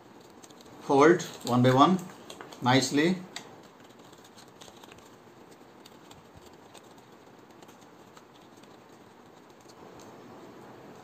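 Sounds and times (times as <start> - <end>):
paper rustling and crackling: 0.0 - 2.8, 3.5 - 10.2
steady low hiss: 0.0 - 11.0.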